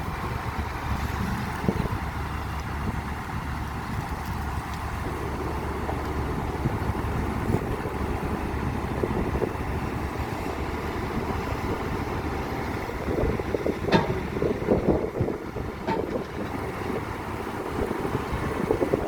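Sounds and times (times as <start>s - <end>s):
diesel machinery rumbling: 0.0s - 19.0s.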